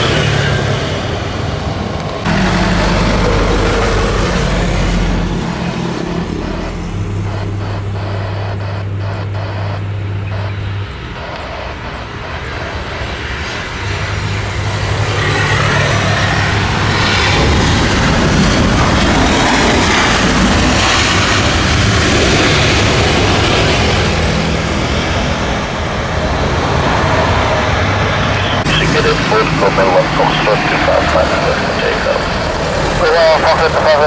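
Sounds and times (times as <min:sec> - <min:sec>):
jet engines roaring: 0:00.0 - 0:34.0
steady low hum: 0:02.3 - 0:34.0.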